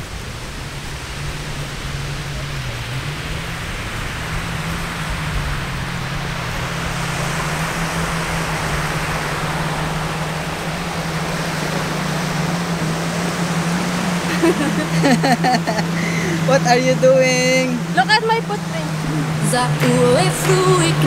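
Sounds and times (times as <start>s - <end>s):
small waves washing onto shore: 0.0s - 21.0s.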